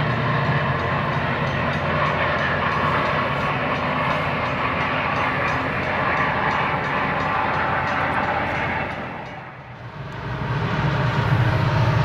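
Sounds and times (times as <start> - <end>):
wheels clicking over rail joints: 0.0 - 9.9
train wheels rumbling on rails: 0.0 - 12.0.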